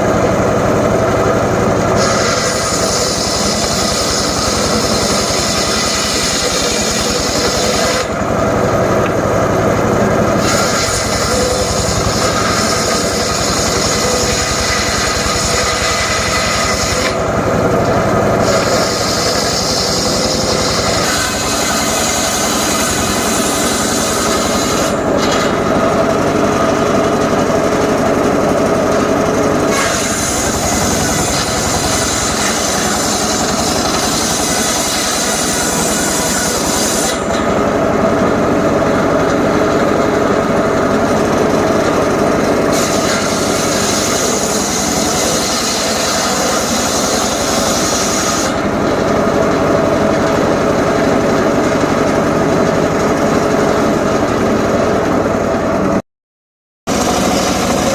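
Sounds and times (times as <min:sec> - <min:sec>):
circular saw cutting wood: 0:00.0 - 0:55.6, 0:56.9 - 0:57.9.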